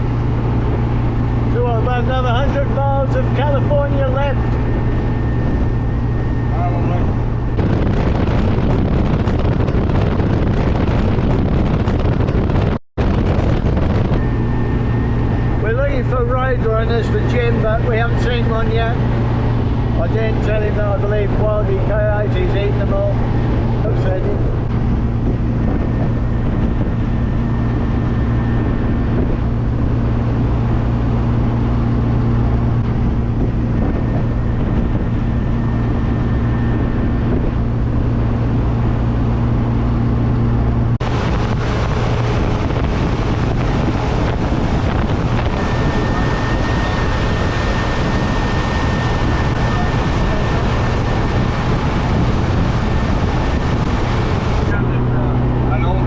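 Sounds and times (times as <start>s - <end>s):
car engine drone: 0.0s - 56.0s
road and wind noise: 0.0s - 56.0s.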